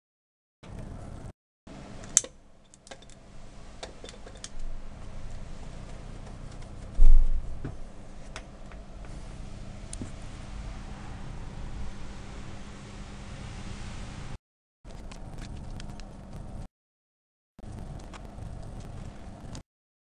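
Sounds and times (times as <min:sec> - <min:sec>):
faint steady hum: 0:00.6 - 0:16.7.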